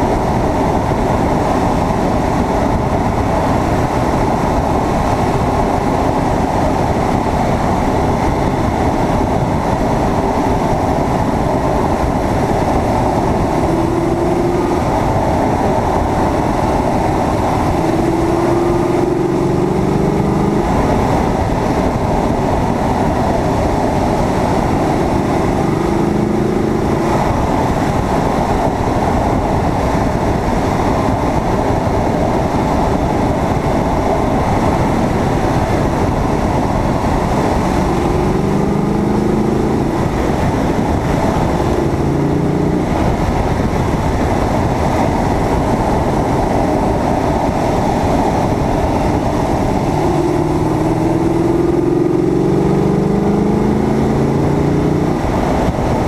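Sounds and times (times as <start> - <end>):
car engine at speed: 0.0 - 56.0
wind and road rush: 0.0 - 56.0.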